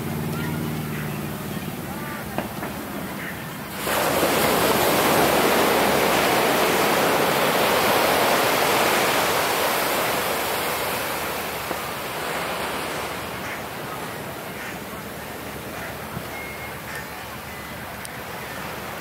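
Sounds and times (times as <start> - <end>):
wave breaking on beach: 1.8 - 19.0.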